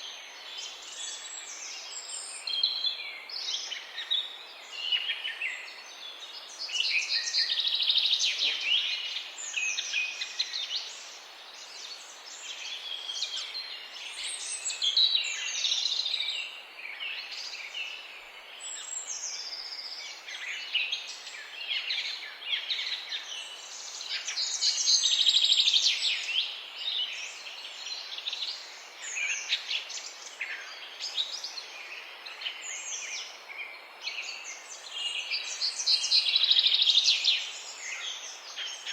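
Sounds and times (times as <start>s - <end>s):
faint background hiss: 0.0s - 38.9s
songbirds chirping in chorus: 0.0s - 38.9s.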